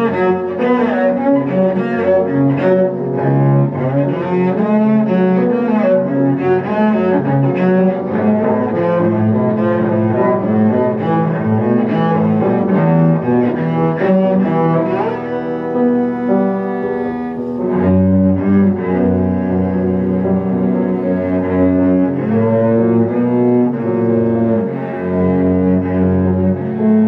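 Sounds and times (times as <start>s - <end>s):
bowed cello melody: 0.0s - 27.0s
piano: 0.0s - 27.0s.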